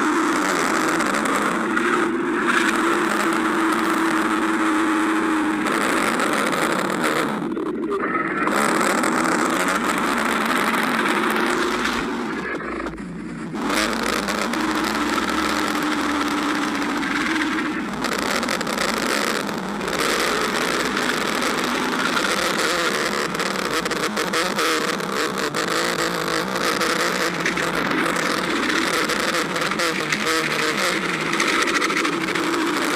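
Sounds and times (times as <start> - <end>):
stomach growling: 0.0 - 32.9.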